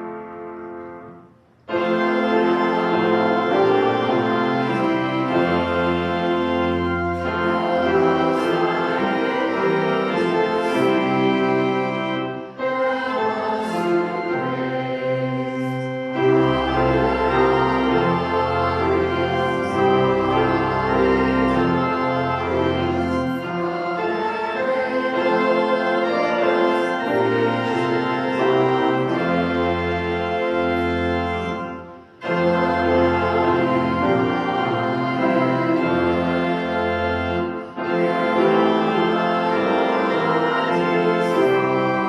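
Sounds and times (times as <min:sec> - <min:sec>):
church organ playing a hymn: 0:00.0 - 0:42.0.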